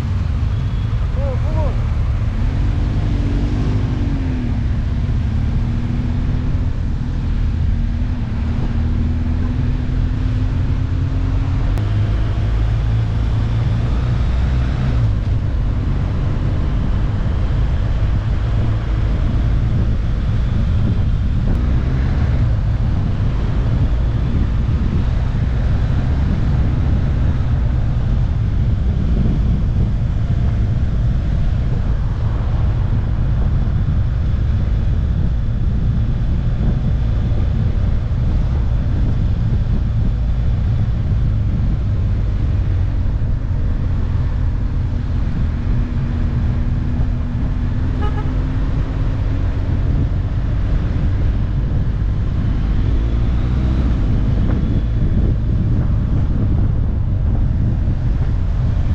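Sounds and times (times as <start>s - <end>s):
motorcycle engine drone: 0.0s - 58.9s
wind rushing on microphone: 0.0s - 58.9s.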